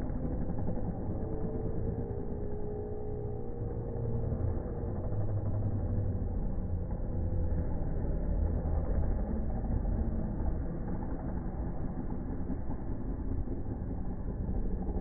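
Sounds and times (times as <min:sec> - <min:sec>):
dirt bikes racing: 0:00.0 - 0:15.0.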